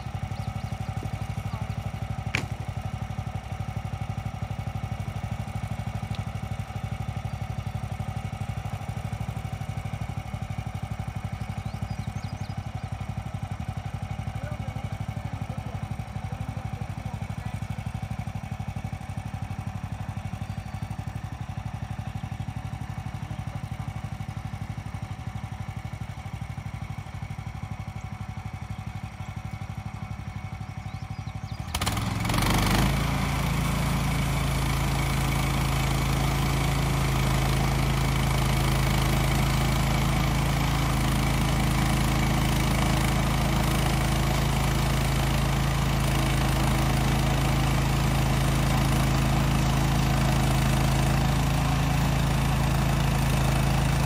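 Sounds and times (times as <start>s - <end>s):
sawmill engine idling and revving: 0.0s - 54.0s.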